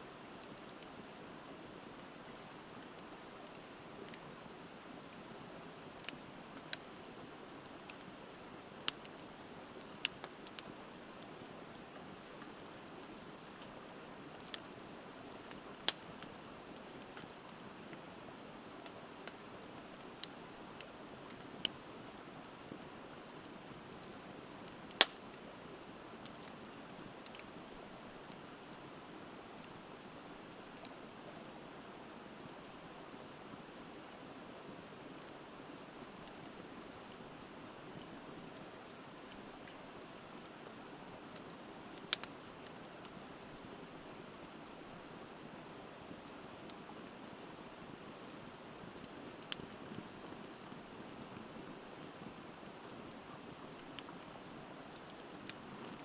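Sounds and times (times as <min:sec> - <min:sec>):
bonfire crackling and popping: 0:00.2 - 0:56.0.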